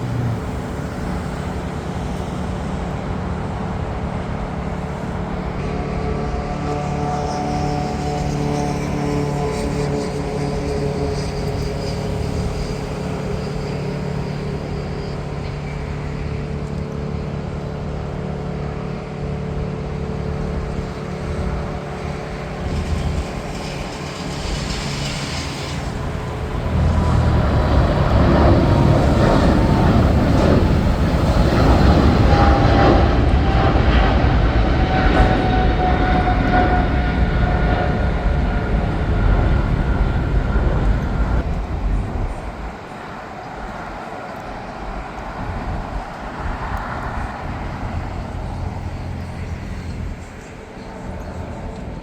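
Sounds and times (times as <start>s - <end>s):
jet airliner engines roaring: 0.0s - 52.0s
jet engine whine: 0.0s - 52.0s.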